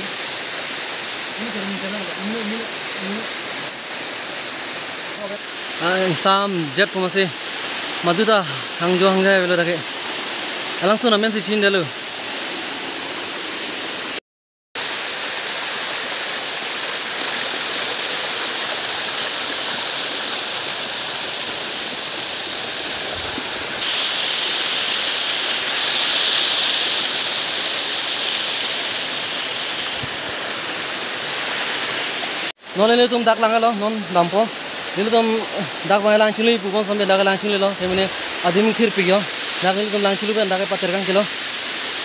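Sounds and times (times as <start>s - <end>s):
small waterfall rushing: 0.0s - 14.2s, 14.8s - 42.0s.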